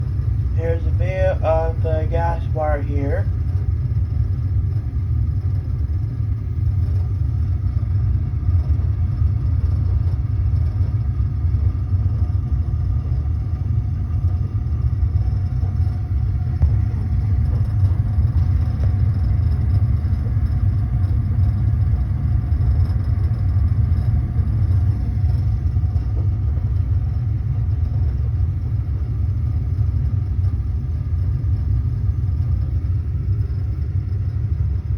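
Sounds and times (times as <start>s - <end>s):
gas burner low rumble: 0.0s - 34.9s.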